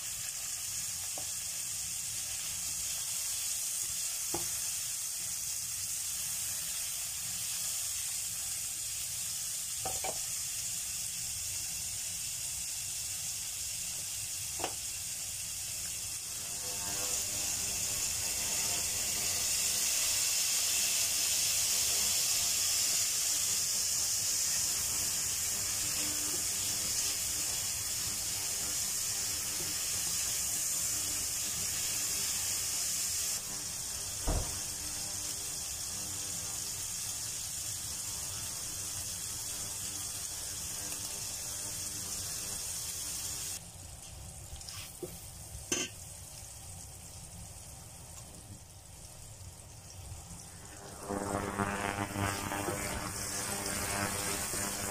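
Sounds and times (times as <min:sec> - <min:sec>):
shrimp sizzling in bubbling liquid: 0:00.0 - 0:54.9.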